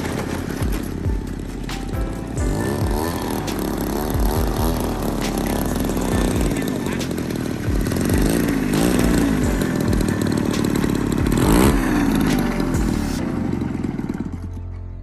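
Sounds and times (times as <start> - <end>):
model airplane engine running hard: 0.0 - 15.0.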